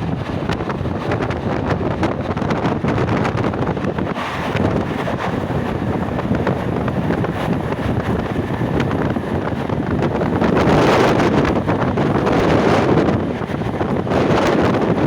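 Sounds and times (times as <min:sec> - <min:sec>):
moving train running: 0:00.0 - 0:15.0
wind buffeting microphone: 0:00.0 - 0:15.0.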